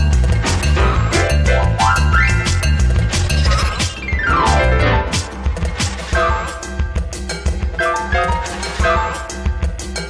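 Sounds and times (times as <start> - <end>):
upbeat music with drum beat: 0.0 - 10.0.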